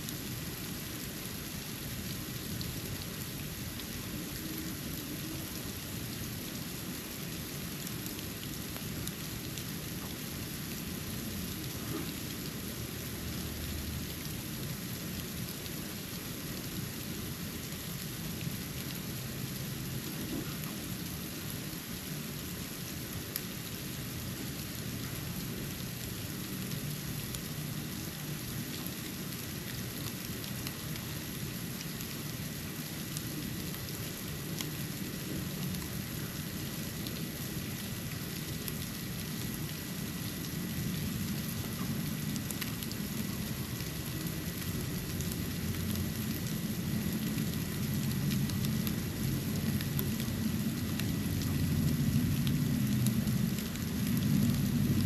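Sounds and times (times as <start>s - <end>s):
snow falling hiss: 0.0s - 55.0s.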